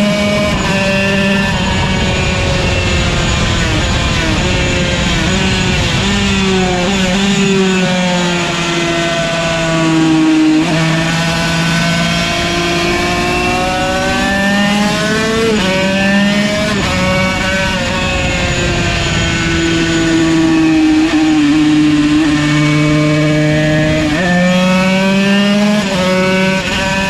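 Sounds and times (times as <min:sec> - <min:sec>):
two-stroke racing engine revving: 0:00.0 - 0:27.0.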